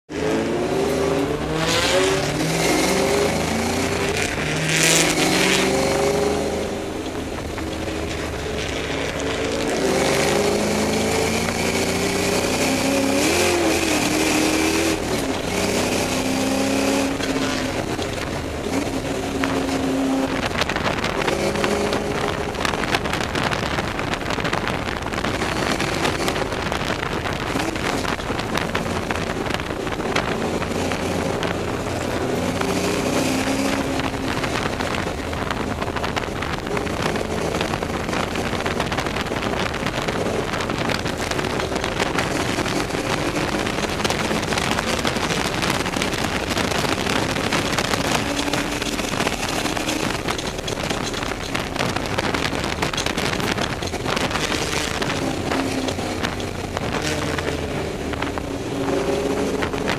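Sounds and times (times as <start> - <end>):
race car engine revving: 0.0 - 59.9
wind and tyres on wet track: 0.0 - 59.9.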